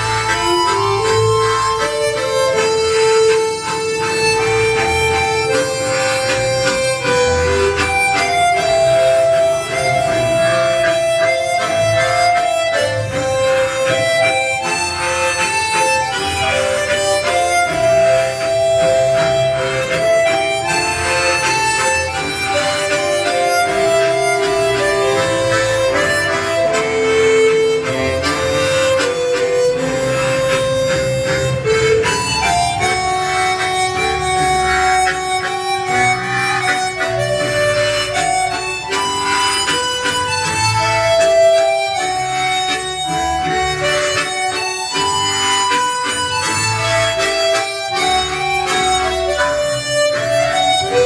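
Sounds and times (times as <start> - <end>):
harmonica ensemble playing: 0.0 - 51.0.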